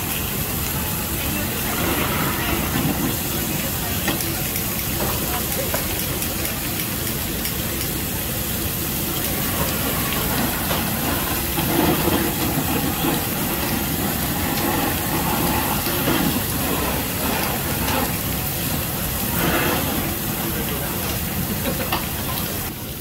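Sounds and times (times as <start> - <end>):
food sizzling on griddle: 0.0 - 23.0.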